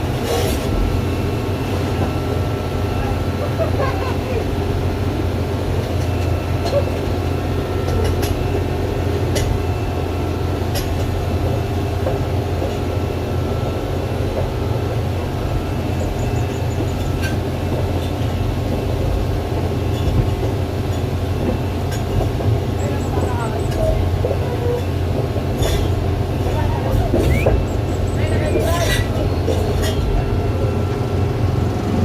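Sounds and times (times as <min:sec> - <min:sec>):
excavator engine hum: 0:00.0 - 0:32.0.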